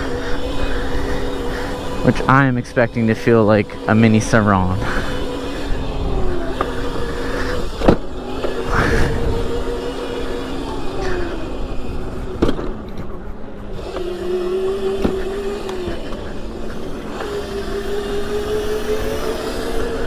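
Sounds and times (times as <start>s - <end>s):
electric motor whining: 0.0s - 20.0s
road and wind rumble: 0.0s - 20.0s.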